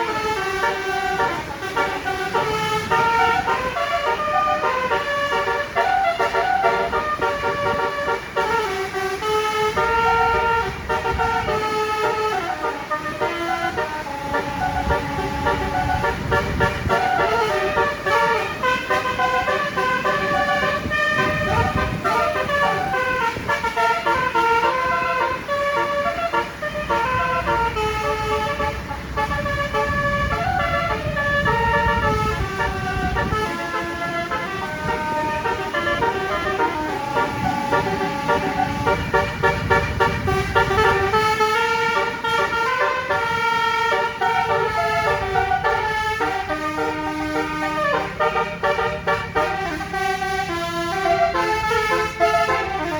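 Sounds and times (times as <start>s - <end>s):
tuned air horns playing melody: 0.0s - 52.9s.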